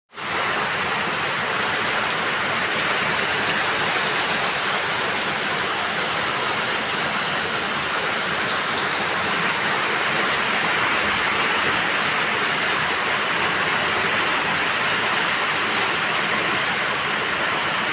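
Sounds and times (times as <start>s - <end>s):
rain falling steadily: 0.1s - 17.9s.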